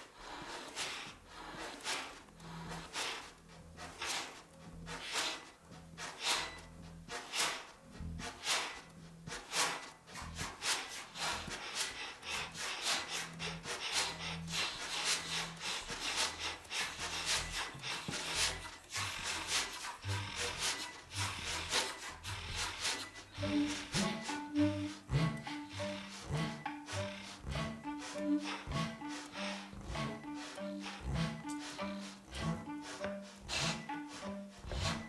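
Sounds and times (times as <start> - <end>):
rasping breath-like strokes: 0.0 - 35.0.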